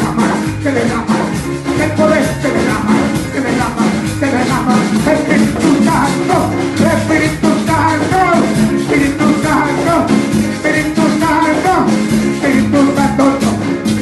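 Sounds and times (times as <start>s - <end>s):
hand drum and percussion: 0.0s - 14.0s
man singing into a microphone: 0.0s - 14.0s.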